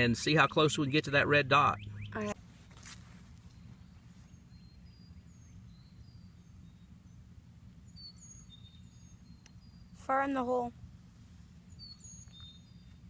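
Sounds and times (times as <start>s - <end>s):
faint songbirds chirping: 0.0s - 13.0s
low steady rumble: 0.0s - 13.0s.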